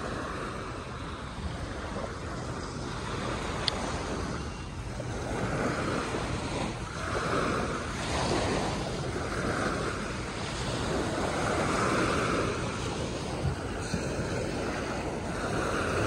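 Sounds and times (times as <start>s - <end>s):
small waves breaking on beach: 0.0s - 16.0s
wind rumbling on microphone: 0.0s - 16.0s.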